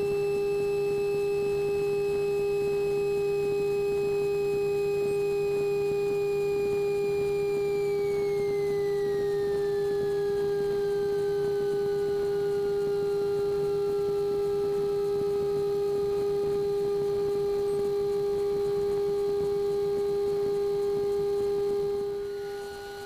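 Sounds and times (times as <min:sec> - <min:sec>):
loud steady hum: 0:00.0 - 0:23.0.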